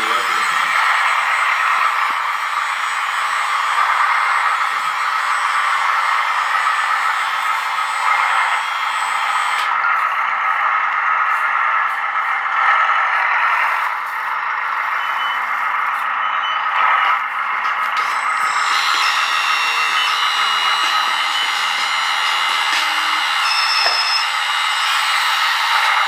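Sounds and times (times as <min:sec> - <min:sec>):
electric pump and motors whirring: 0:00.0 - 0:26.0.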